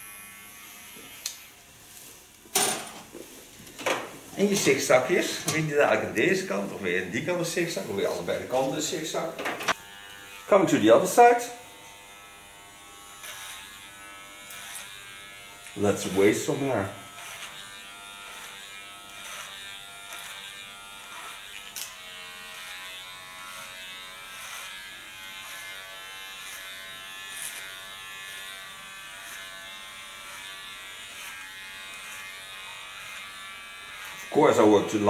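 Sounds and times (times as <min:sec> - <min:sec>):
hair clipper buzzing: 0:00.0 - 0:02.1, 0:03.8 - 0:35.0.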